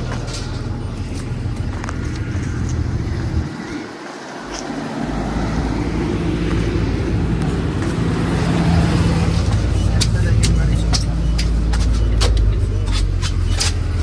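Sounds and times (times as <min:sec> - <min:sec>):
bus engine idling: 0:00.0 - 0:14.0.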